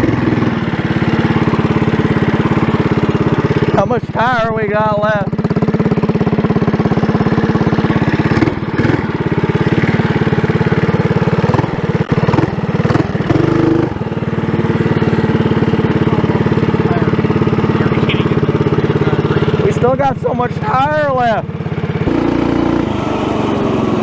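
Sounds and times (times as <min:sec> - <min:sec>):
minibike engine idling: 0:00.0 - 0:24.0.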